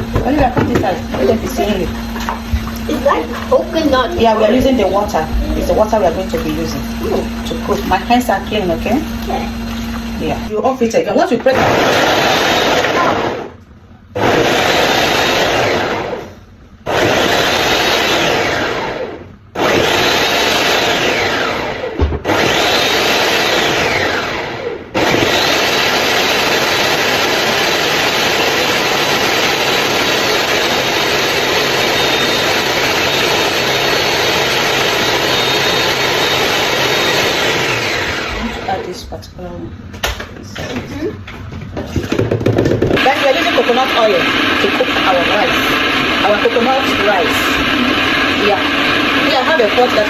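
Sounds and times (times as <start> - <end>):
electric blender motor: 0.0 - 10.5, 11.5 - 13.6, 14.2 - 38.9, 42.5 - 50.0.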